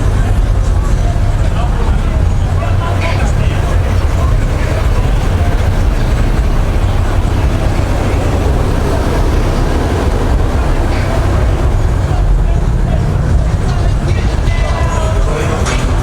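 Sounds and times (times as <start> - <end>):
loud low rumble: 0.0 - 16.0.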